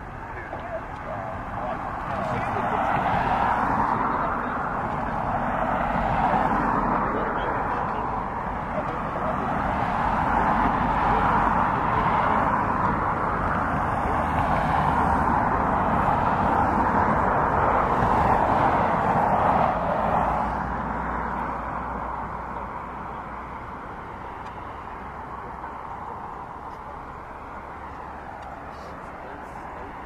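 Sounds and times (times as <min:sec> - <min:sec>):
jet engines at taxi power: 0:00.0 - 0:30.0.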